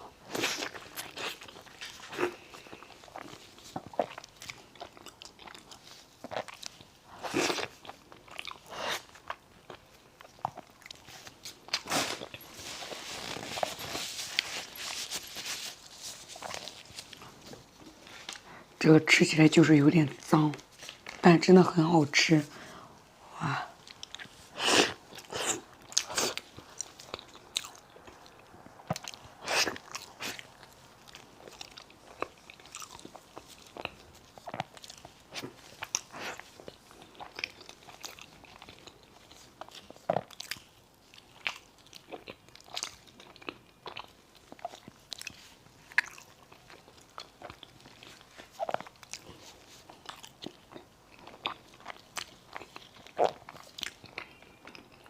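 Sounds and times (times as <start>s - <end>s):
biting and chewing food: 0.0s - 18.6s, 23.8s - 55.0s.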